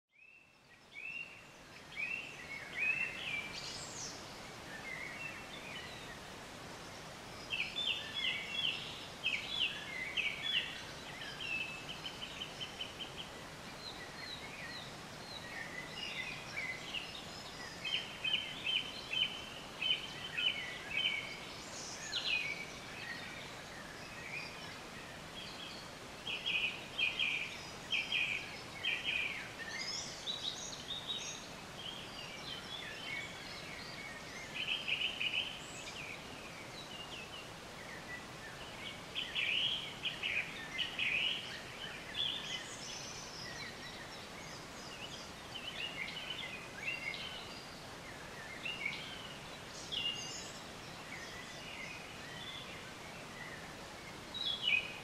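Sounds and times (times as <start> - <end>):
birds chirping and trilling: 0.1 - 55.0
steady background hiss: 0.2 - 55.0.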